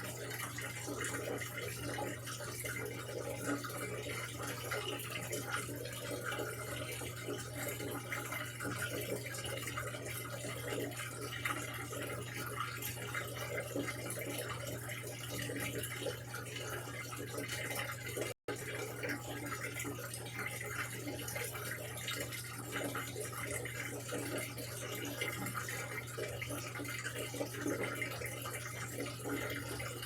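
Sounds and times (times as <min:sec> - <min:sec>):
washing machine low hum: 0:00.0 - 0:30.0
water splashing in washing machine: 0:00.0 - 0:30.0.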